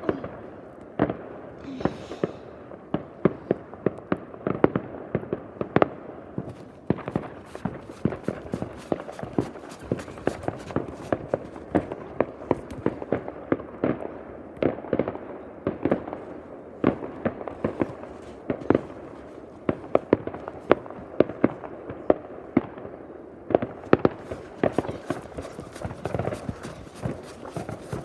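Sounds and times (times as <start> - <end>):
fireworks bangs and pops: 2.9 - 15.0, 15.7 - 22.1, 23.5 - 28.0.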